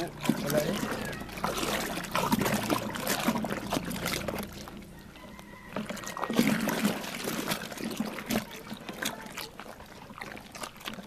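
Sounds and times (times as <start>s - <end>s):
hand sloshing liquid in tub: 0.0s - 11.0s.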